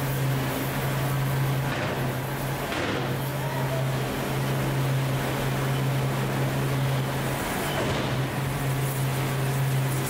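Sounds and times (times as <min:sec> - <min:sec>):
furnace roar: 0:00.0 - 0:10.0.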